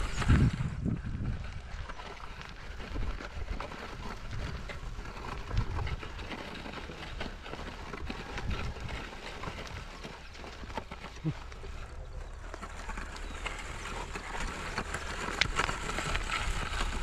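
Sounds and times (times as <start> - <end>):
hooves stepping on soil: 0.0 - 17.0
plough dragging through earth: 0.0 - 17.0.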